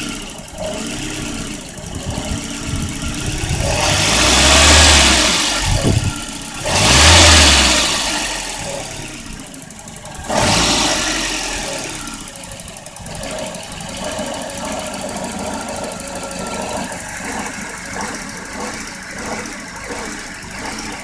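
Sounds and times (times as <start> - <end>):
car engine revving and rough idling: 0.0 - 21.0.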